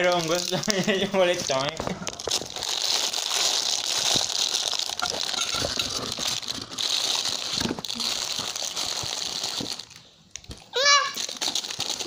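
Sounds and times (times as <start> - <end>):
plastic bag of candies crinkling: 0.0 - 12.0.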